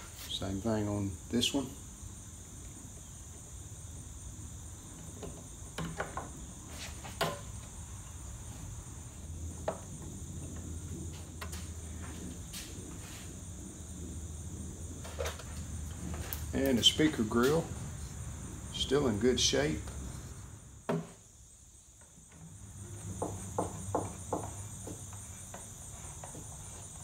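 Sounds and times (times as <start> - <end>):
crickets chirring: 0.0 - 27.0.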